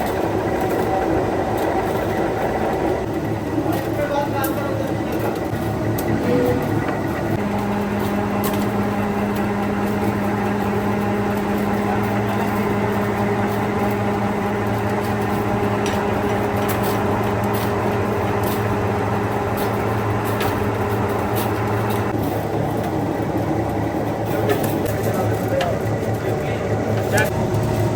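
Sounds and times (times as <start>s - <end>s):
factory machinery humming: 0.0s - 27.9s.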